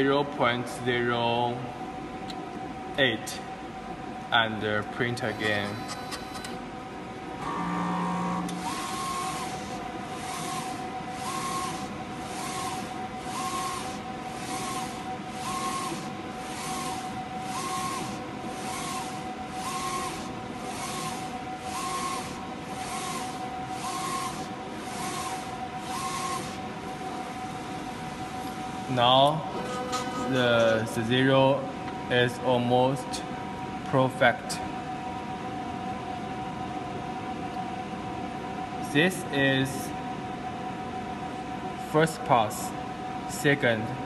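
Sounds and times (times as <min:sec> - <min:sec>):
steady printer whine: 0:00.0 - 0:44.0.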